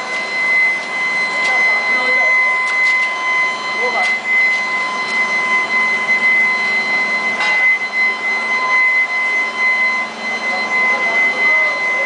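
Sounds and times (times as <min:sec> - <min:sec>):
constant noisy hum: 0:00.0 - 0:12.0
furnace high-pitched whine: 0:00.0 - 0:12.0.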